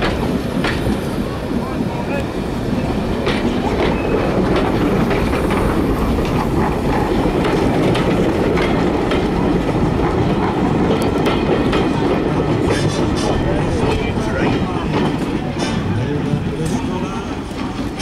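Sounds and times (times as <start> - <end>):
train coaches rumbling past: 0.0 - 18.0
wheels clicking over rail joints: 2.9 - 18.0.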